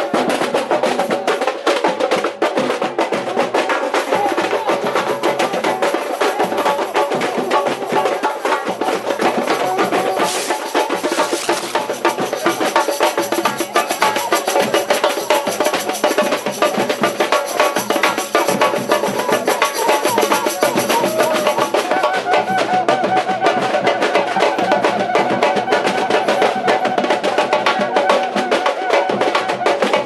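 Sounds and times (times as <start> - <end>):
cuica: 0.0 - 30.0
samba drum band: 0.0 - 30.0.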